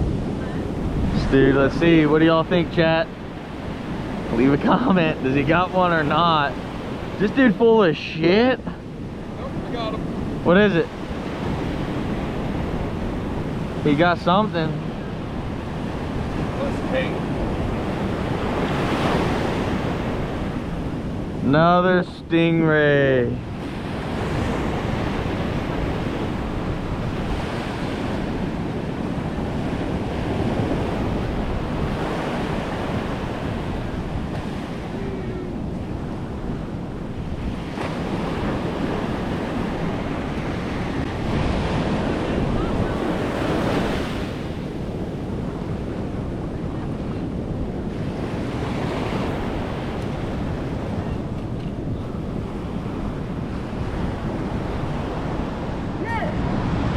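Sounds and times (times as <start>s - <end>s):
ocean surf breaking: 0.0s - 56.9s
wind buffeting microphone: 0.0s - 56.9s.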